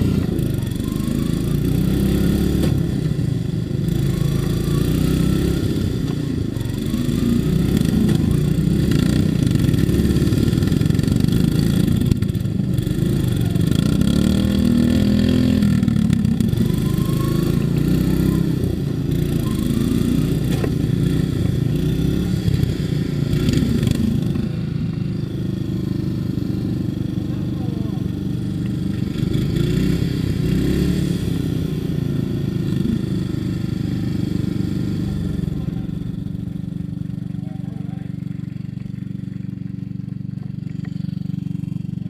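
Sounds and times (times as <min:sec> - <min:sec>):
lawn mower engine revving: 0:00.0 - 0:42.0.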